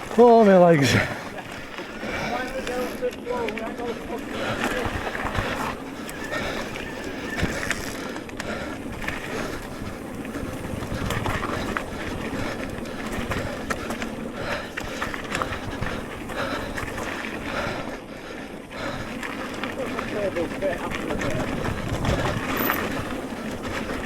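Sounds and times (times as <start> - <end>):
bike rattling over bumps: 0.0 - 24.0
tyres rolling on dirt: 0.0 - 24.0.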